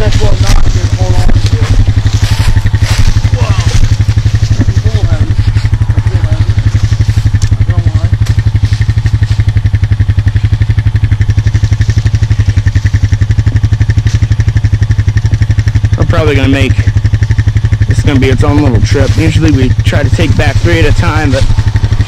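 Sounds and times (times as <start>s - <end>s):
quad bike engine idling: 0.0s - 22.0s.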